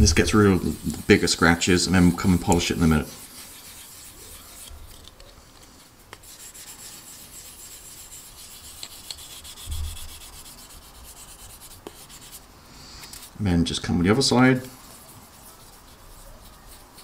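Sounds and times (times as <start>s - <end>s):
polishing stick scrubbing plastic: 0.0s - 13.4s, 14.1s - 17.0s.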